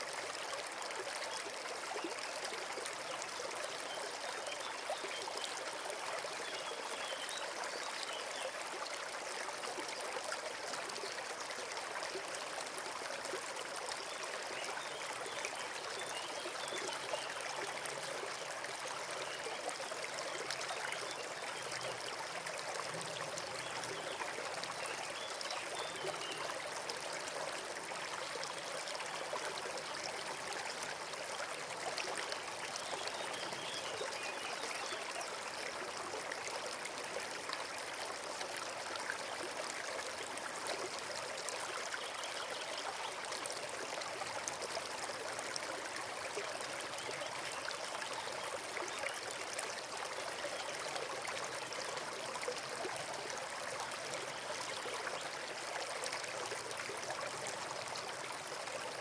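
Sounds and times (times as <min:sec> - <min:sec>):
brook trickling: 0:00.0 - 0:59.0.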